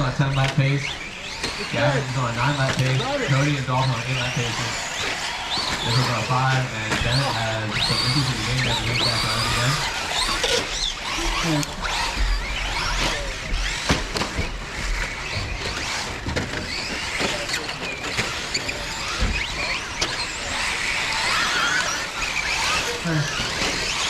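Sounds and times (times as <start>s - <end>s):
clicks and knocks from landings: 0.0s - 24.0s
rc car motors whining: 0.0s - 24.0s.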